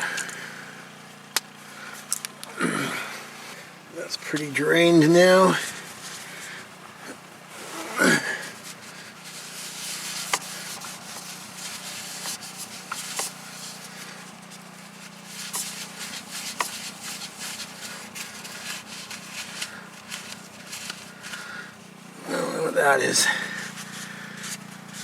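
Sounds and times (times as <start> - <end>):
steady low hum: 0.0 - 25.0
handling rubbing and scraping: 1.4 - 25.0.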